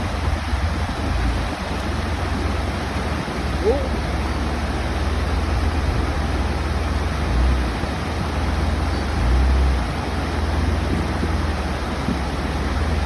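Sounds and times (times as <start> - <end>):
rushing water: 0.0 - 13.0
vehicle engine rumble: 0.0 - 13.0.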